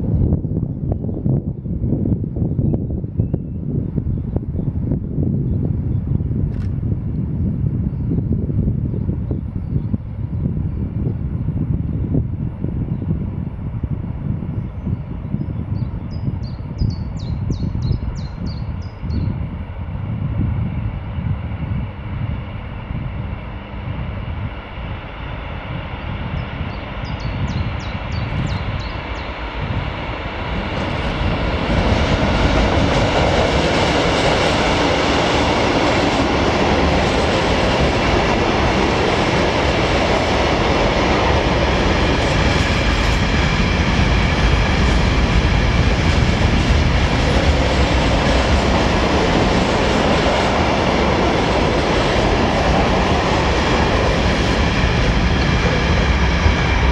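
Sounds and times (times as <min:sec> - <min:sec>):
freight train wheels rumbling on rails: 0:00.0 - 0:56.9.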